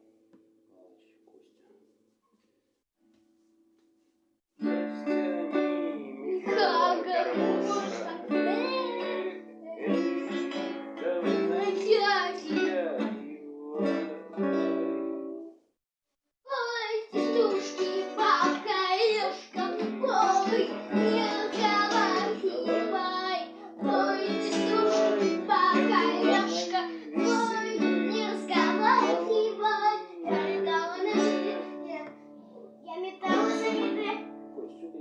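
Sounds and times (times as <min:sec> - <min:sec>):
child singing: 0:04.6 - 0:14.9, 0:16.5 - 0:35.0
strummed acoustic guitar: 0:04.6 - 0:15.4, 0:17.1 - 0:34.8.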